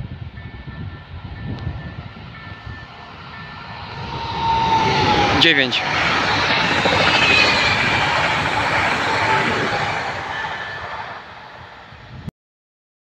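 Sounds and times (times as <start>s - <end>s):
train wheels rumbling on rails: 0.0s - 12.3s.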